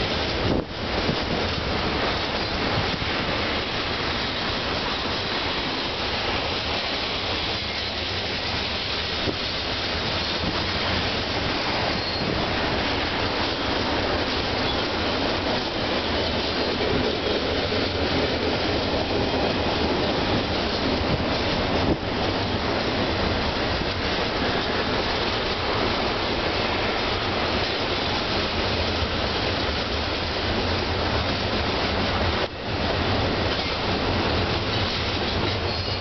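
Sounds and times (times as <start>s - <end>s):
freight train wheels on rail: 0.0s - 36.0s.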